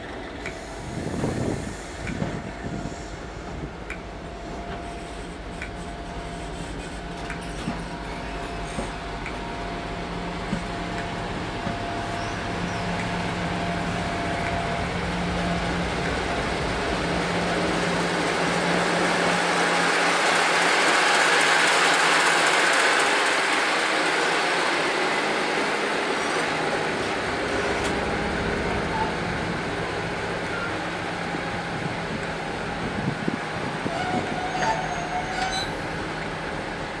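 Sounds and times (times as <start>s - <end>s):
diesel locomotive engine: 0.0s - 37.0s
train wheels on rails: 0.0s - 37.0s.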